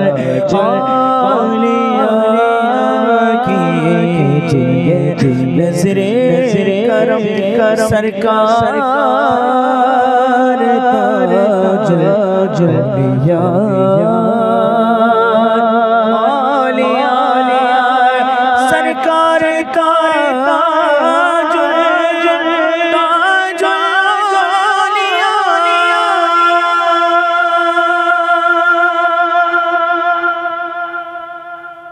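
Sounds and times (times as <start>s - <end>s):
man singing devotional song: 0.0s - 31.9s.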